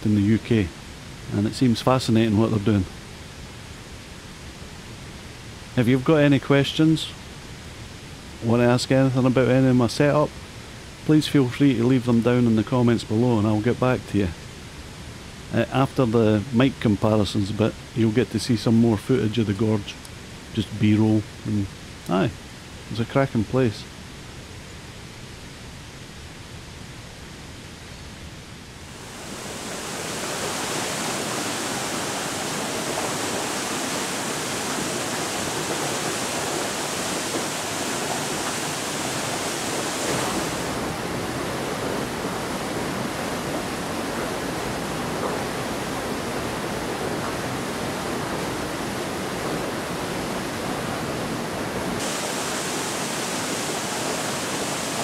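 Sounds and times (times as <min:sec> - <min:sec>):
waterfall rushing into pool: 0:00.0 - 0:23.8, 0:28.8 - 0:55.0.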